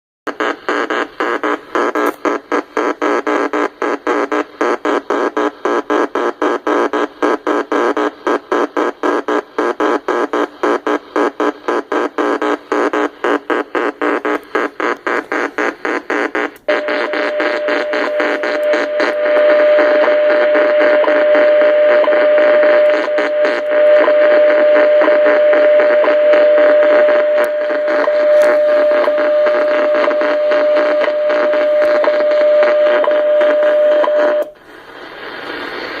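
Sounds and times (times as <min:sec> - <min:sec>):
raspy radio interference hiss: 0:00.3 - 0:36.0.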